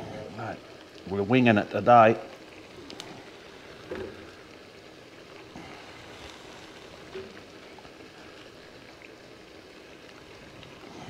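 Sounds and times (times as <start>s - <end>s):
stir-fry sizzling in a pan: 0.0s - 11.0s.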